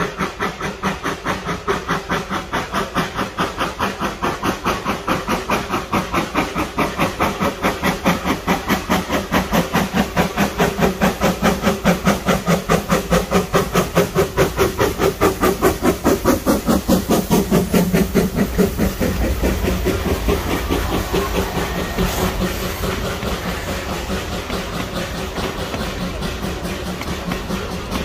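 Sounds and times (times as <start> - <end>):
carriages rumbling and clattering: 0.0 - 28.0
hissing steam: 0.0 - 28.0
steam locomotive chuffing: 0.0 - 28.0.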